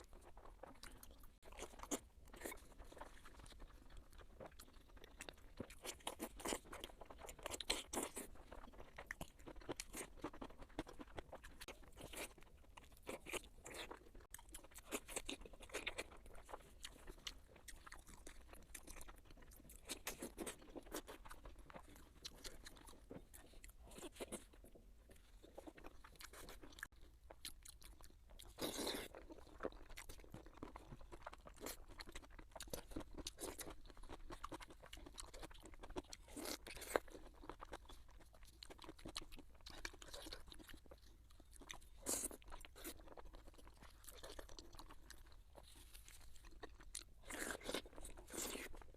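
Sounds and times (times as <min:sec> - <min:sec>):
people chewing crunchy food: 0:00.0 - 0:48.9.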